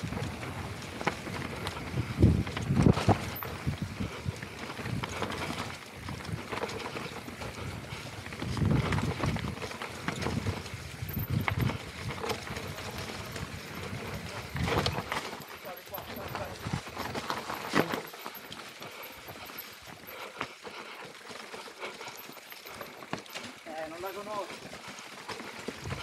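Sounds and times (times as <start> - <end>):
bike tyres crunching over stones: 0.0 - 26.0.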